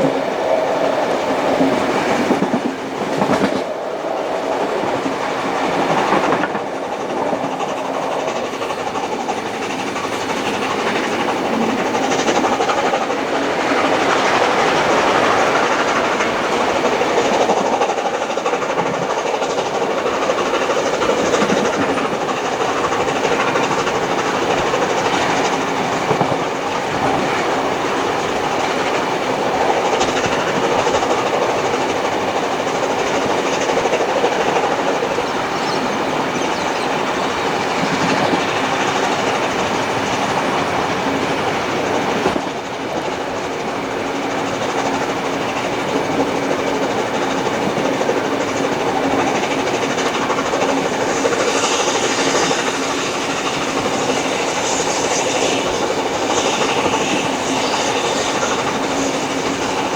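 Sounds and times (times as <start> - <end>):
train carriages rumbling on track: 0.0 - 59.9
wheels clicking over rails: 0.0 - 59.9.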